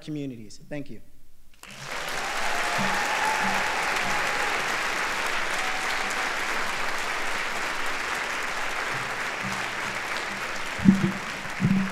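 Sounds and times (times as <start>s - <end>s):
audience applauding: 1.6s - 11.9s.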